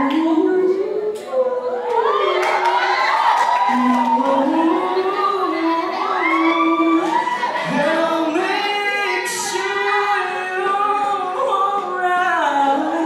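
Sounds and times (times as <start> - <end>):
person singing through speakers: 0.0 - 13.0.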